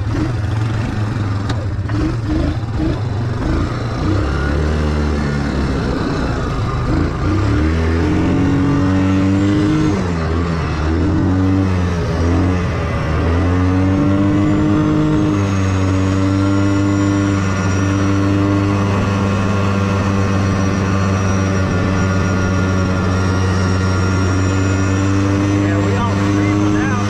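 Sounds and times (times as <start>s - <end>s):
vehicle engine running while driving: 0.0s - 27.0s.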